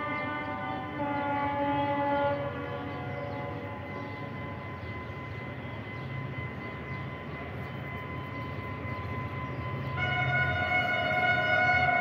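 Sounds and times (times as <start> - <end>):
diesel train rumble: 0.0 - 12.0
train horn: 0.0 - 12.0.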